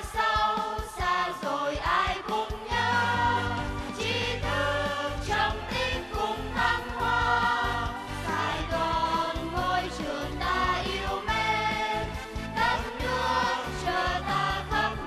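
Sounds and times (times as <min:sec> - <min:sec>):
group of voices singing: 0:00.0 - 0:15.0
instrumental backing with bass: 0:02.7 - 0:15.0.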